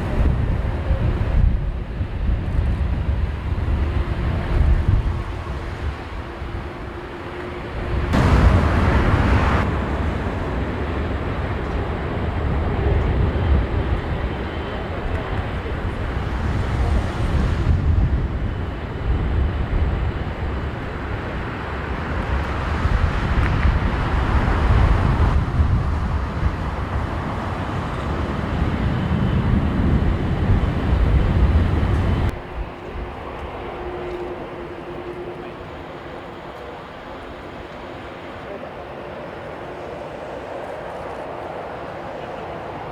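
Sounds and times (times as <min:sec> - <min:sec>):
jet airliner flying overhead: 0:00.0 - 0:42.9
wind buffeting microphone: 0:00.0 - 0:42.9.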